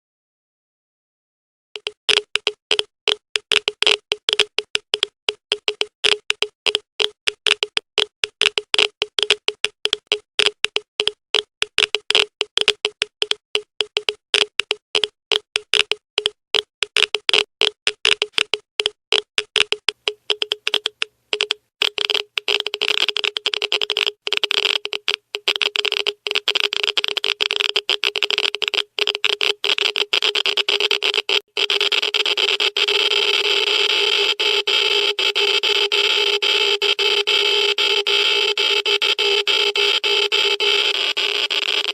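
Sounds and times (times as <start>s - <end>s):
geiger counter clicking fast: 1.8s - 41.9s.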